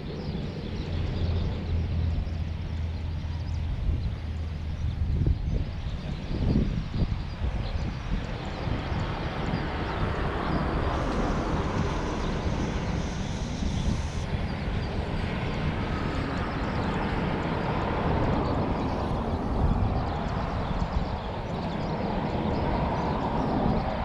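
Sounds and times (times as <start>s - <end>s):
aircraft engine rumble: 0.0s - 24.0s.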